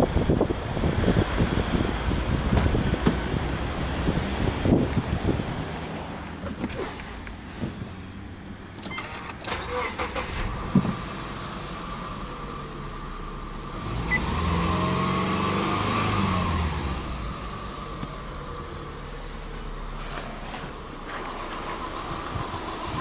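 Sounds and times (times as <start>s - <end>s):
car engine idling: 1.7s - 14.8s, 16.2s - 23.0s.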